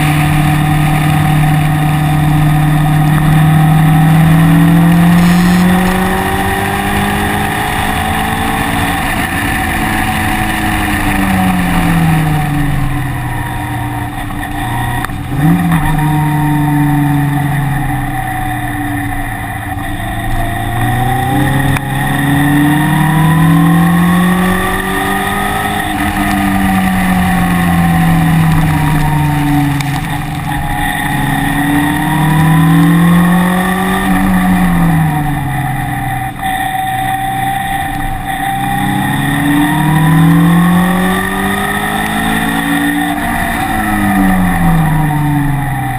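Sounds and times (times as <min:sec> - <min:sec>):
race car engine accelerating: 0:00.0 - 0:45.9
steady rushing noise: 0:00.0 - 0:45.9.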